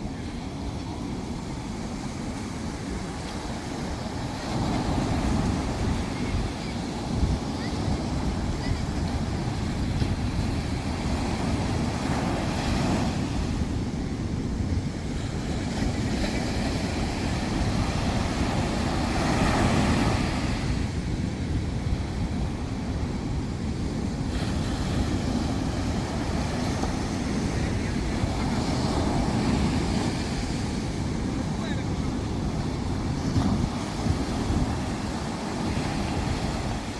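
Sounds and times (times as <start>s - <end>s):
waves washing onto sand: 0.0s - 36.9s
wind buffeting microphone: 0.0s - 36.9s.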